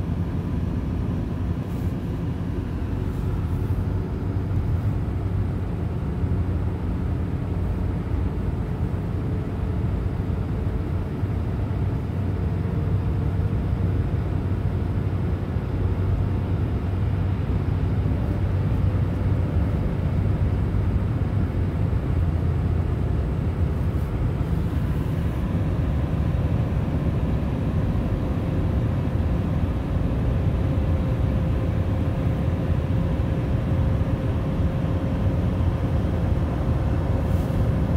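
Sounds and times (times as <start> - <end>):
faint steady whine: 0.0 - 37.9
road and engine rumble in car: 0.0 - 37.9.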